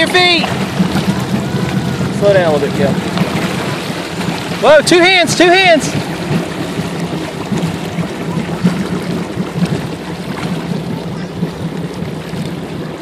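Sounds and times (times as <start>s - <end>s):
motorboat engine humming: 0.0s - 13.0s
wake water churning: 0.0s - 13.0s.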